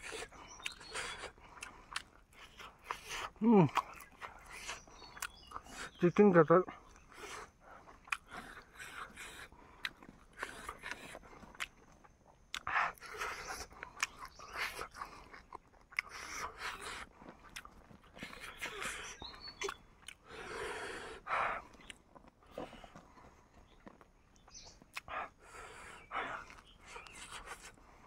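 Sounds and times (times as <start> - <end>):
wet mouth clicks: 0.0 - 6.0, 6.9 - 23.0, 23.8 - 27.8
chewing chicken: 0.0 - 28.0.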